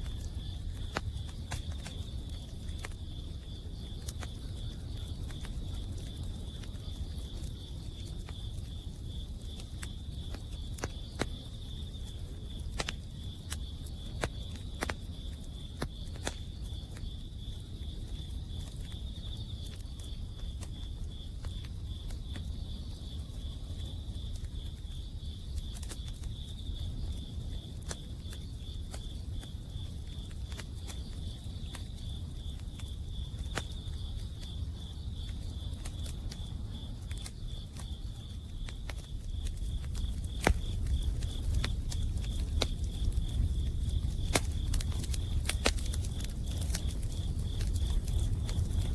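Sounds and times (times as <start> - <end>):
campfire crackling and popping: 0.0 - 48.9
insects chirping: 0.0 - 48.9.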